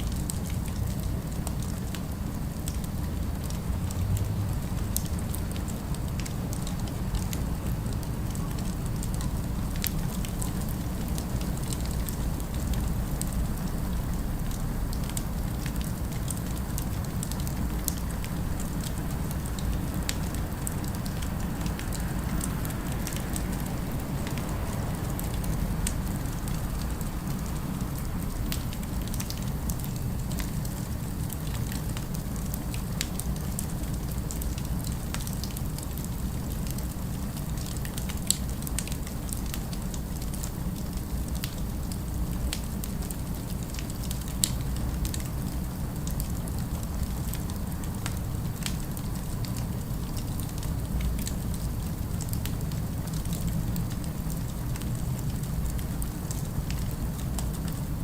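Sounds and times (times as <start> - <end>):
city ambience rumble: 0.0 - 58.0
fire crackling and popping: 0.0 - 58.0.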